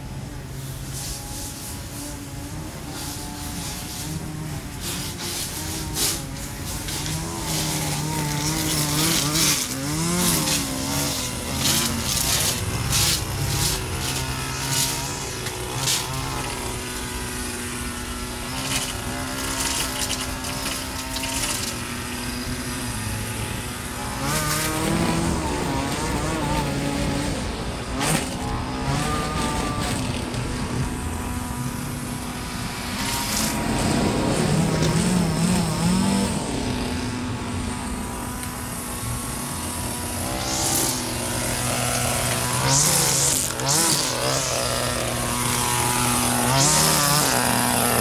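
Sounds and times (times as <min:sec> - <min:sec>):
string trimmer engine revving: 0:00.0 - 0:48.0
trimmer line ticking on debris: 0:00.8 - 0:48.0.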